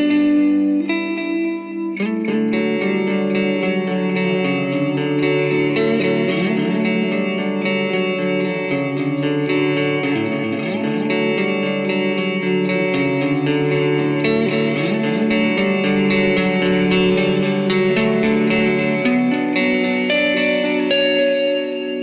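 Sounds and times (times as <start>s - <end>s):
electric guitar with effects: 0.0s - 22.0s.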